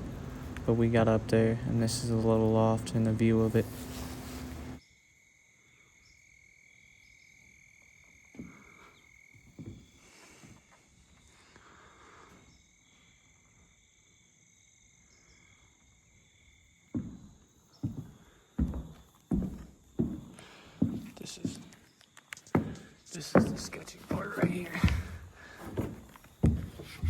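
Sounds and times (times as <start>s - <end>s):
insects calling: 0.0s - 27.0s.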